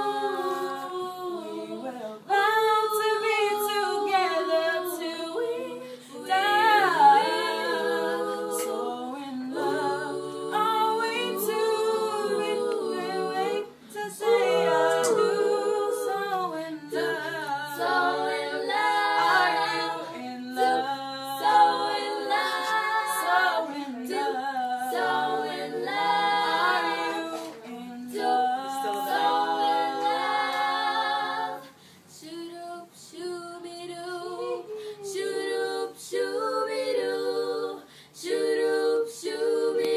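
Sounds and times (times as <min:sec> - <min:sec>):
girls singing a cappella: 0:00.0 - 0:39.9.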